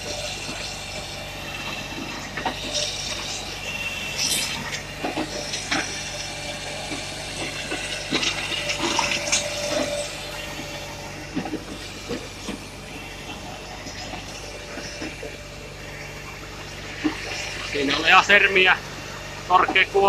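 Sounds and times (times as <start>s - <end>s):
short whine: 0.0s - 20.0s
tractor engine running: 0.0s - 20.0s.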